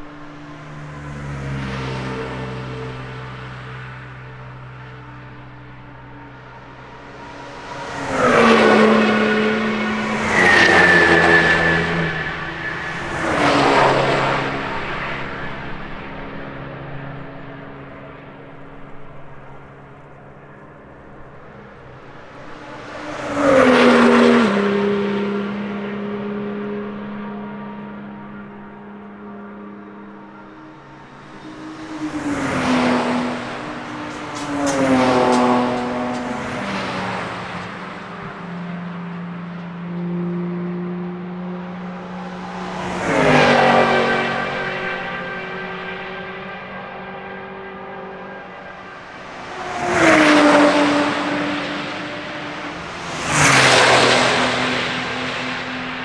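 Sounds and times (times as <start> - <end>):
cars passing at speed: 0.0 - 56.0.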